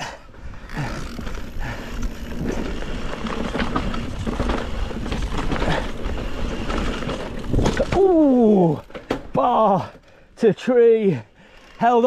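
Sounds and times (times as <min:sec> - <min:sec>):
bike frame rattling: 0:00.0 - 0:10.0, 0:11.4 - 0:12.0
bike tyres rolling over dirt: 0:00.4 - 0:10.2.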